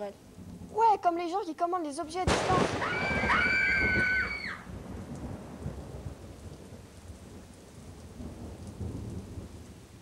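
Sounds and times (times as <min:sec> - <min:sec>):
low rumble of thunder: 0:00.0 - 0:10.0
steady rain: 0:00.0 - 0:10.0.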